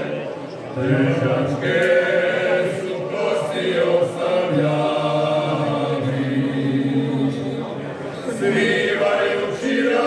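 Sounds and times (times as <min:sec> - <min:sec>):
men singing a cappella harmony: 0:00.8 - 0:07.6, 0:08.3 - 0:10.0.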